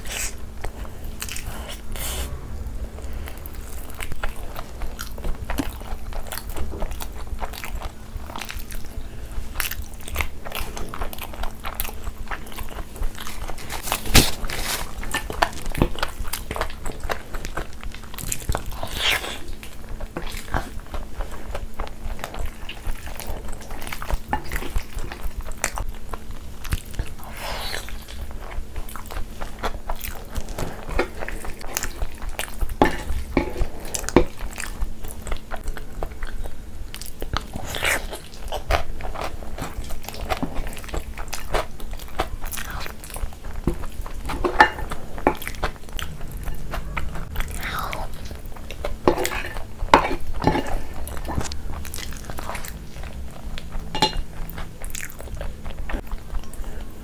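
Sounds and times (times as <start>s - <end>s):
close chewing: 0.0s - 57.0s.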